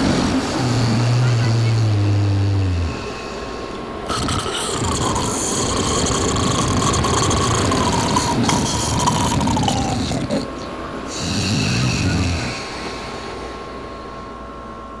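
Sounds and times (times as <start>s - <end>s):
man snoring: 0.0s - 3.3s, 4.0s - 12.7s.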